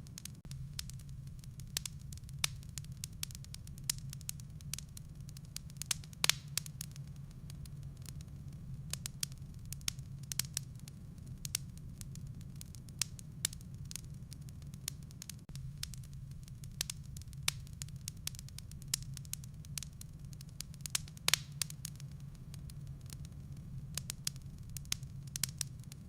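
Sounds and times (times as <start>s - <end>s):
fire low rumble: 0.0s - 26.0s
firewood crackling and popping: 0.0s - 26.0s.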